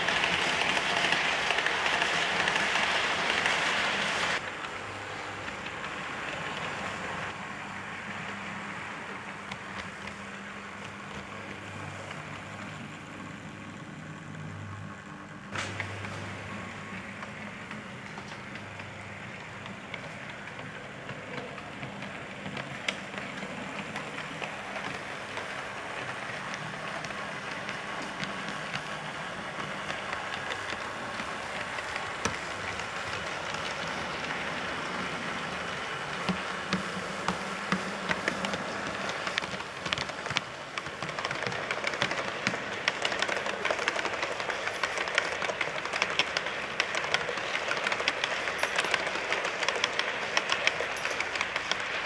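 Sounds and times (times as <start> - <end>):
model train wheels rattling on rails: 0.0 - 52.0.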